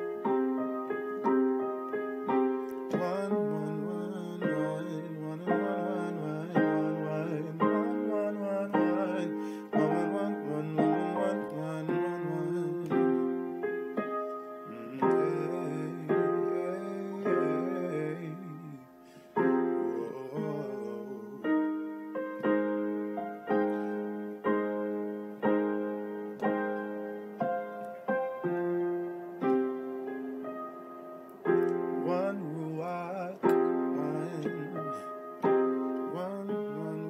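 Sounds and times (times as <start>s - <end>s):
slow keyboard chords: 0.0s - 37.0s.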